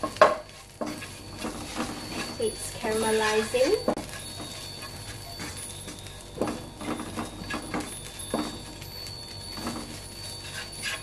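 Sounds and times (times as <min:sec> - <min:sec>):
wooden spatula scraping a wok: 0:00.0 - 0:11.0.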